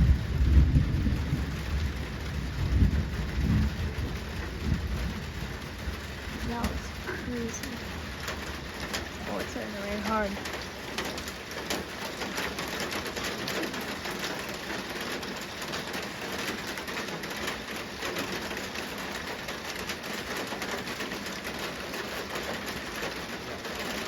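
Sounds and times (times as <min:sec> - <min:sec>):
heavy rain: 0:00.0 - 0:24.0
raindrops ticking on hard surface: 0:00.0 - 0:24.0.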